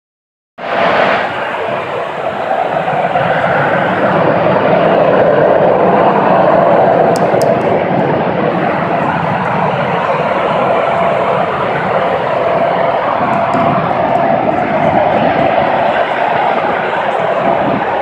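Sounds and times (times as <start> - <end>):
loud droning rumble: 0.6 - 18.0.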